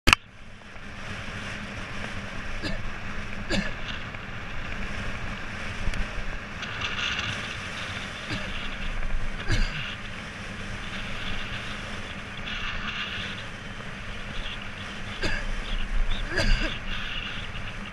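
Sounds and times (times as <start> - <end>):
motorcycle engine rumble: 0.1 - 17.9
wind rush on microphone: 0.1 - 17.9.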